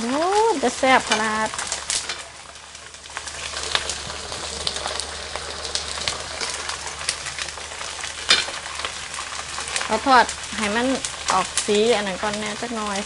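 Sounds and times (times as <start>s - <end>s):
pork skin crackling in oil: 0.0s - 13.0s.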